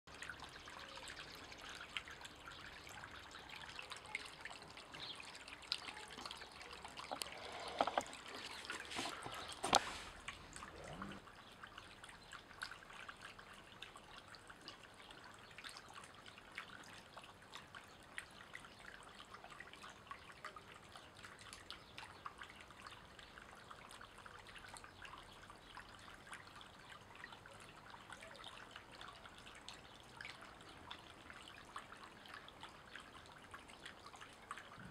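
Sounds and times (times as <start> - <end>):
fountain water trickling: 0.1 - 34.9.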